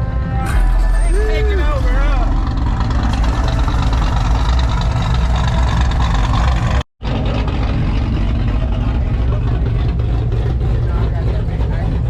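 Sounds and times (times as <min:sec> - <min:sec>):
car engine idling: 0:00.8 - 0:12.0.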